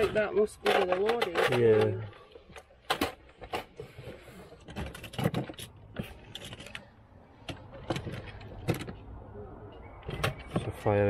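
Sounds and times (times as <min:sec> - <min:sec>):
toy vehicles clattering: 0:00.0 - 0:09.2.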